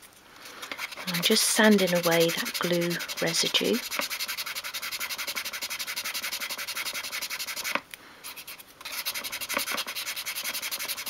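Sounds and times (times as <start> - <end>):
sandpaper rubbing on wood: 0.7 - 11.0.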